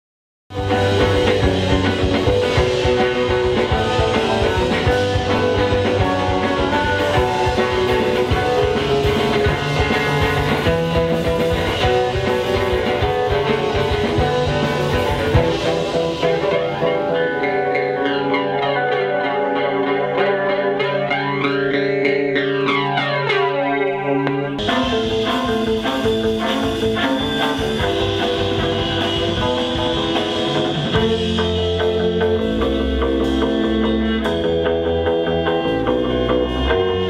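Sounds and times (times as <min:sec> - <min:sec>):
bass guitar: 0:00.5 - 0:37.0
drum kit: 0:00.5 - 0:37.0
electric guitars: 0:00.5 - 0:37.0.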